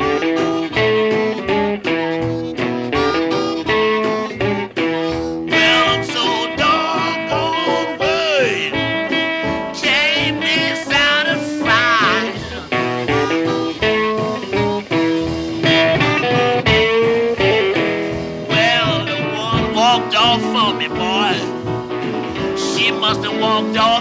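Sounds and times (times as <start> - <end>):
blues band with guitar: 0.0 - 24.0.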